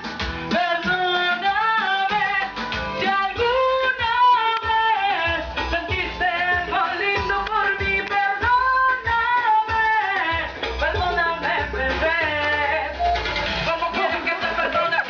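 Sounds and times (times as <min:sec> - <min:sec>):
backing music with a beat: 0:00.0 - 0:15.0
woman singing into microphone: 0:00.5 - 0:13.0, 0:13.7 - 0:15.0.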